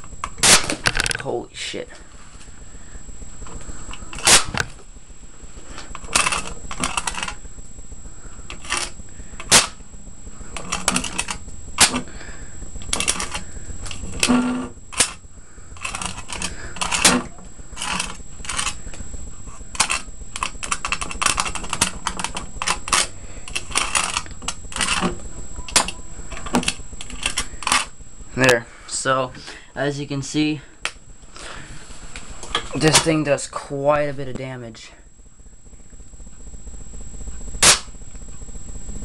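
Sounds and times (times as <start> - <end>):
electric arcs snapping: 0.0 - 39.0
sparks crackling: 0.0 - 39.0.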